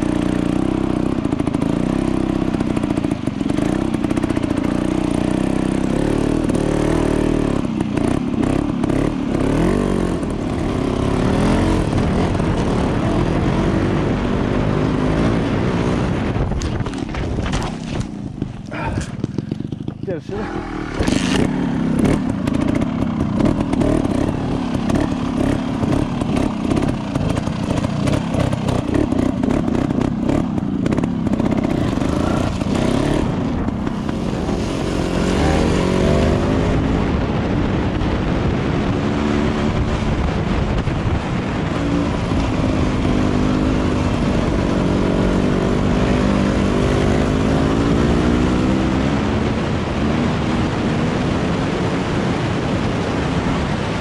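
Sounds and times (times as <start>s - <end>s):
off-road motorcycle engine revving: 0.0s - 54.0s
wind rushing over microphone: 0.0s - 54.0s.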